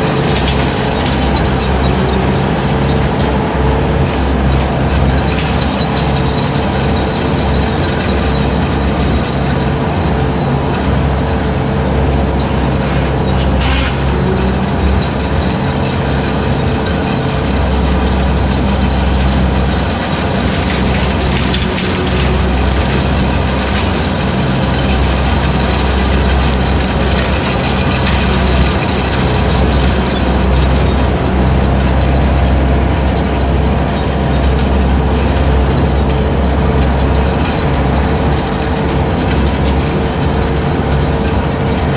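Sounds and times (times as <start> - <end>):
skid steer engine under load: 0.0 - 41.9.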